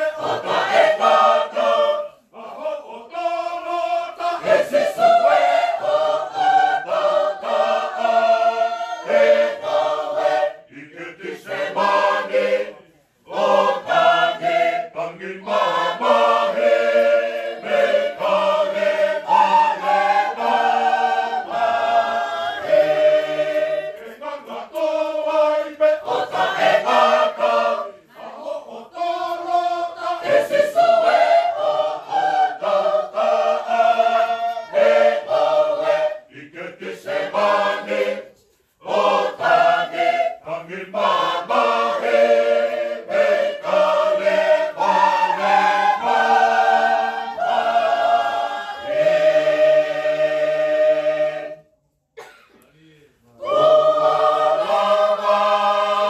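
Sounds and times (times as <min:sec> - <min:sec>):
church choir singing a cappella: 0:00.0 - 0:52.3, 0:53.2 - 0:56.0.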